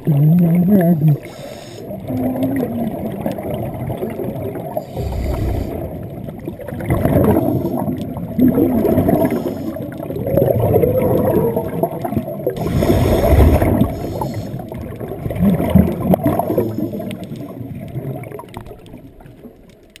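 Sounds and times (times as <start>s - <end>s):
underwater bubbles gurgling: 0.0s - 20.0s.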